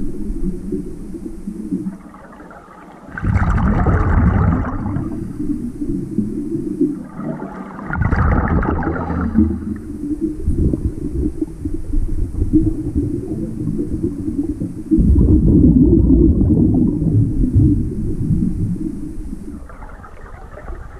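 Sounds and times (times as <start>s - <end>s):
bubbles rumbling and gurgling: 0.0s - 20.9s.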